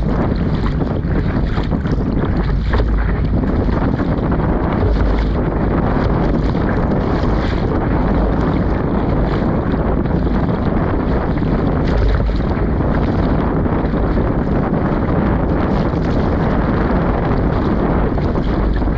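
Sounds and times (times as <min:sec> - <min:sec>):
water slapping against boat: 0:00.0 - 0:18.9
wind buffeting microphone: 0:00.0 - 0:18.9.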